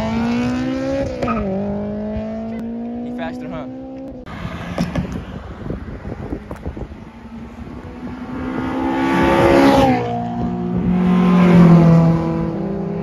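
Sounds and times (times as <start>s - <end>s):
cars accelerating past: 0.0s - 13.0s.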